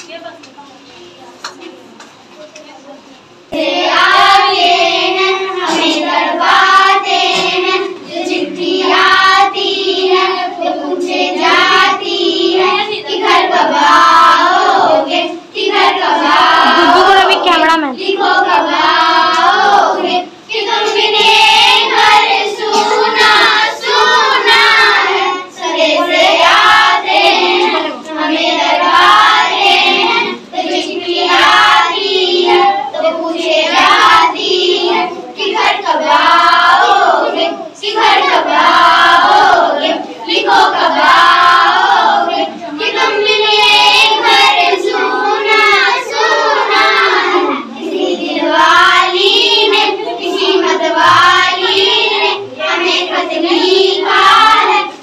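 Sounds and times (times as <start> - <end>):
girls singing together: 3.4 - 55.0.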